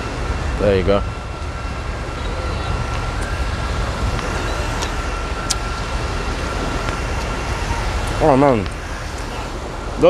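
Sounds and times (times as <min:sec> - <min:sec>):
faint high whine: 0:00.0 - 0:10.0
wind buffeting microphone: 0:00.0 - 0:10.0.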